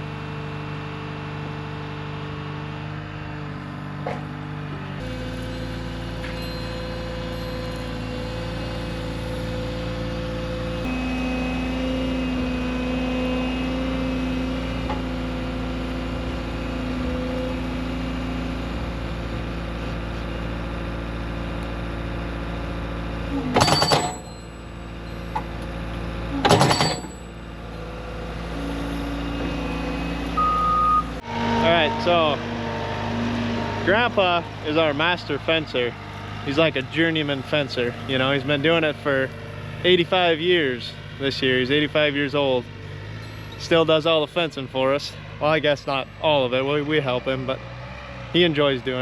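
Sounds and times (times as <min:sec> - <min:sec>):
engine running steadily: 0:00.0 - 0:49.0.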